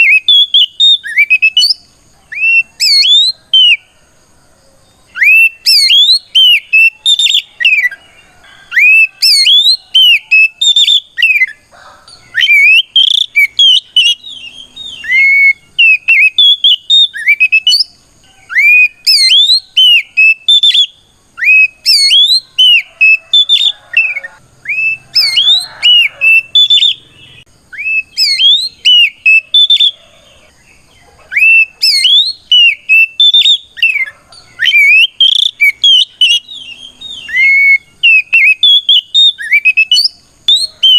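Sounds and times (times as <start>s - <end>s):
bird singing whistled phrases: 0.0s - 3.8s, 5.1s - 8.0s, 8.7s - 11.6s, 12.3s - 30.1s, 31.3s - 40.9s.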